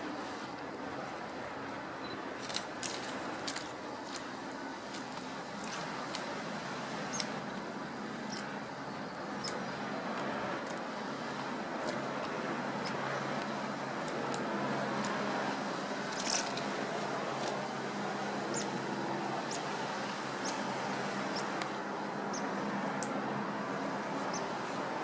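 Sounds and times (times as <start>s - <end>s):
outdoor background hiss: 0.0s - 25.0s.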